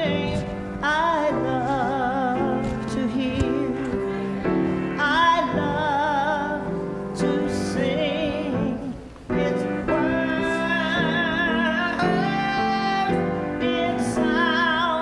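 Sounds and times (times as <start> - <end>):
person singing with vibrato: 0.0 - 15.0
sustained keyboard chords: 0.0 - 15.0.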